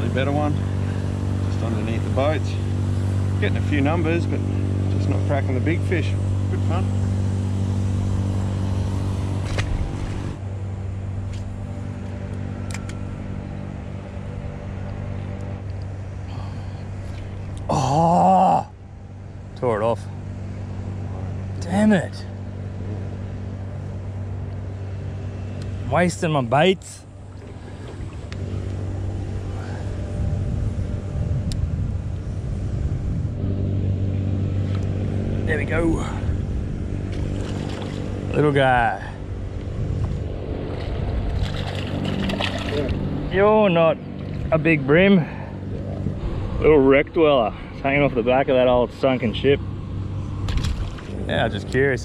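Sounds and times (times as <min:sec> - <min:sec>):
boat engine idling: 0:00.0 - 0:52.0.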